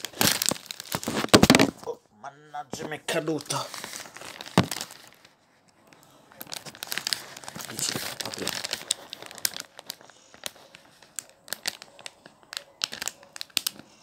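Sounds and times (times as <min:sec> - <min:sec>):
packet crinkling and tearing: 0:00.0 - 0:02.0, 0:02.7 - 0:14.0.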